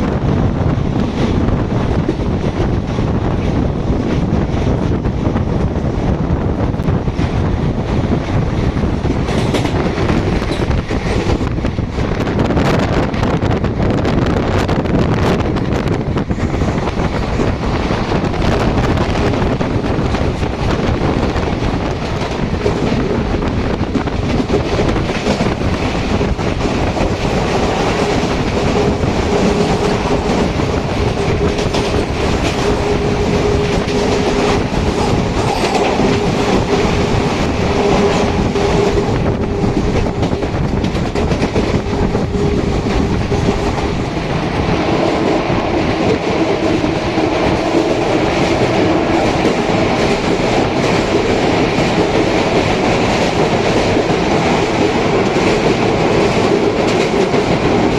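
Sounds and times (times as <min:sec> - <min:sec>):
steady rushing noise: 0:00.0 - 0:57.9
train wheels clattering: 0:07.0 - 0:13.7, 0:14.6 - 0:57.9.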